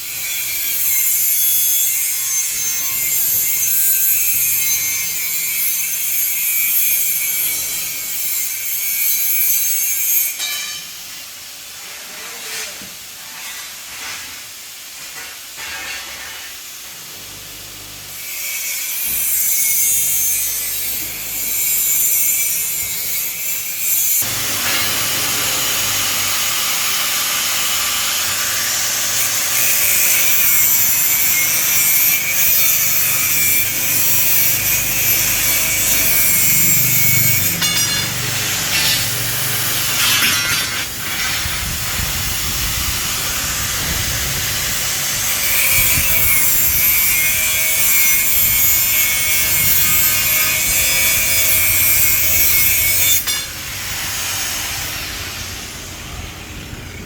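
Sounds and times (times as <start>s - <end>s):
steel being cut or ground: 0.0s - 57.0s.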